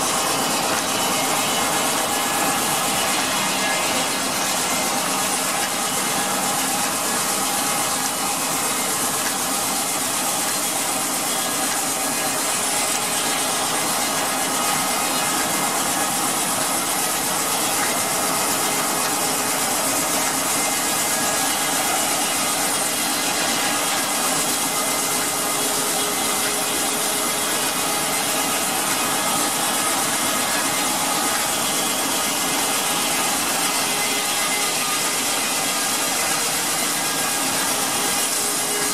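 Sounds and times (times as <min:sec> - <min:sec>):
steam sawmill running: 0:00.0 - 0:38.9.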